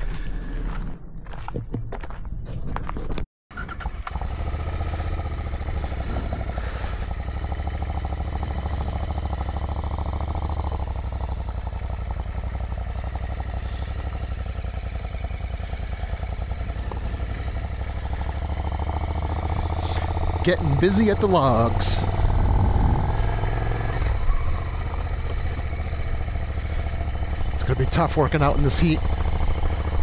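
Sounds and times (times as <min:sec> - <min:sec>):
motorcycle engine idling: 0:03.6 - 0:30.0
motorcycle pulling away: 0:03.8 - 0:30.0.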